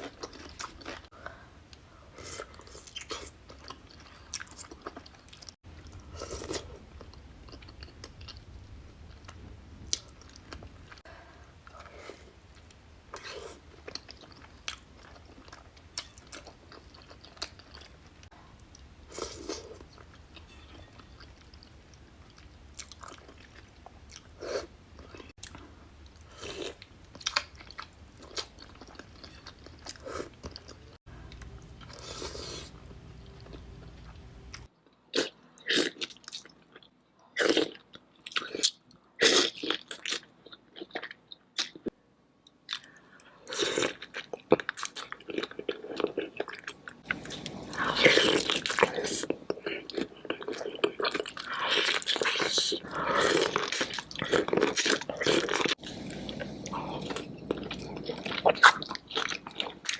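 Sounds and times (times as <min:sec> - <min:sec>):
low background hum: 0:00.0 - 0:35.1, 0:45.8 - 0:51.8, 0:52.4 - 0:59.9
chewing and crunching food: 0:00.0 - 0:42.0, 0:42.6 - 0:59.9.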